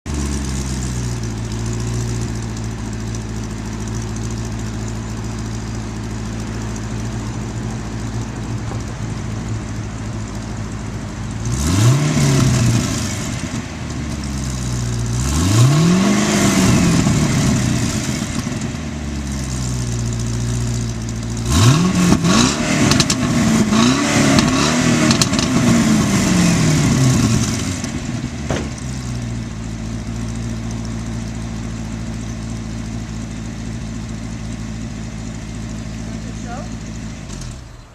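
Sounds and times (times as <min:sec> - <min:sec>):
car engine idling and revving: 0:00.1 - 0:37.9.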